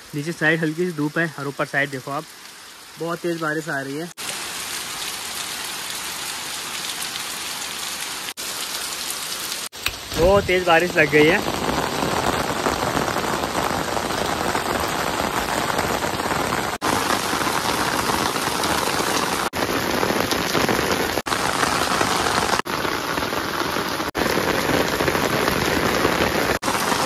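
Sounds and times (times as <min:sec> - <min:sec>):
heavy rain streaming off roof: 0:00.0 - 0:27.0.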